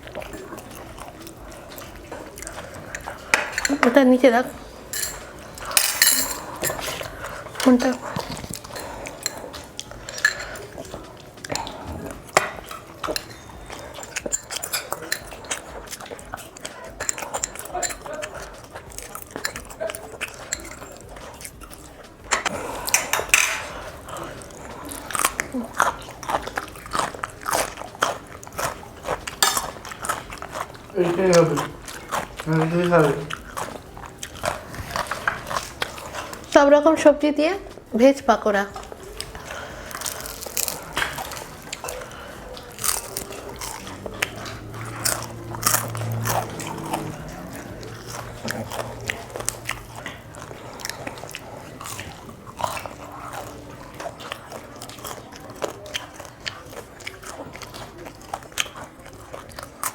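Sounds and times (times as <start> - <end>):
cutlery and dishes clinking: 0.0 - 36.5, 38.8 - 56.7
crunchy chewing: 0.0 - 36.6, 38.6 - 59.9.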